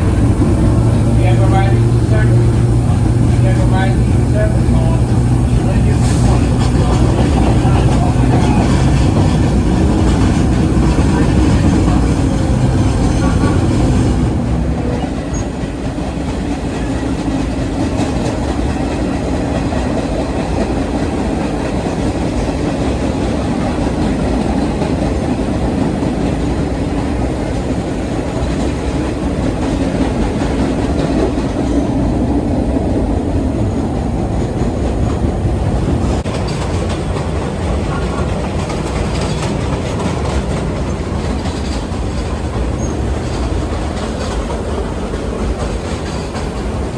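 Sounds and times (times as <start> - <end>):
subway train rumbling: 0.0 - 46.9
wheels clicking on track: 0.0 - 46.9.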